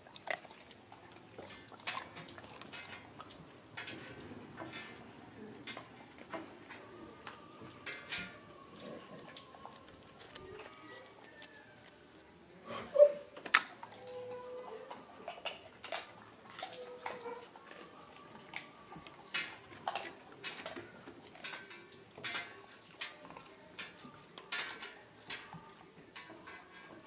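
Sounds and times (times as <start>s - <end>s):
dog crunching pork rinds: 0.0s - 12.0s, 13.4s - 27.0s.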